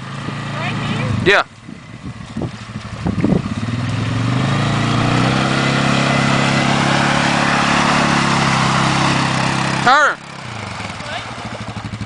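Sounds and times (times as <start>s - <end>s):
atv engine under throttle: 0.0s - 12.0s.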